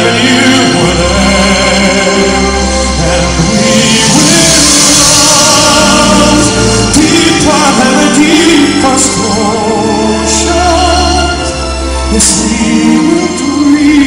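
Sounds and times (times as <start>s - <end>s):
instrumental accompaniment: 0.0s - 14.0s
person singing with vibrato: 0.0s - 14.0s.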